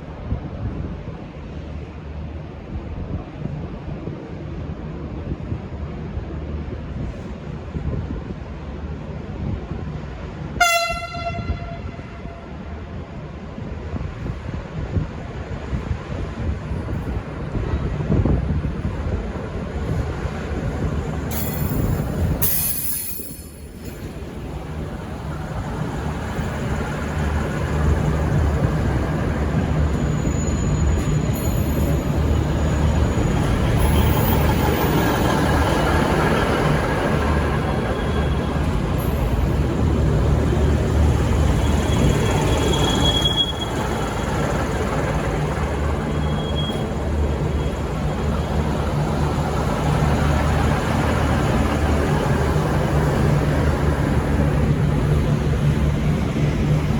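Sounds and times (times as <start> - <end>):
train engine drone: 0.0 - 56.9
wheel and rail rumble: 0.0 - 56.9.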